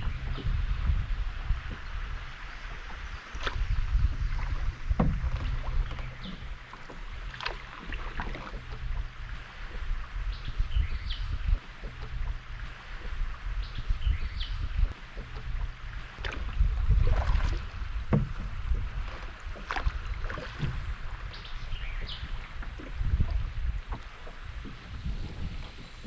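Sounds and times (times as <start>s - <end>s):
paddle splashing water: 0.0s - 26.0s
wind on microphone: 0.0s - 26.0s.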